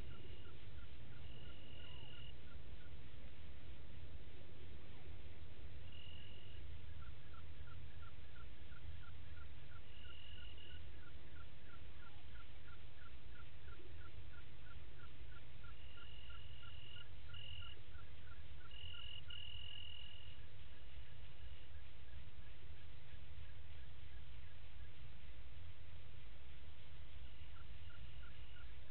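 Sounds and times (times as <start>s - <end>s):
cricket trills: 0.0s - 3.0s, 5.8s - 24.9s, 27.1s - 28.9s
low rumble background noise: 0.0s - 28.9s.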